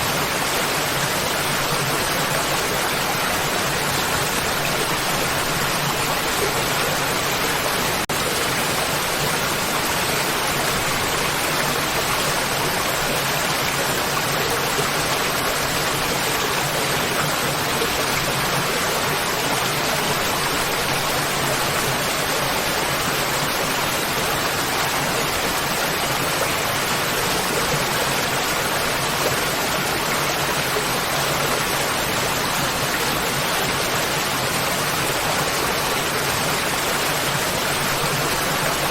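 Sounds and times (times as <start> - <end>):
waterfall pouring and splashing: 0.0 - 38.9.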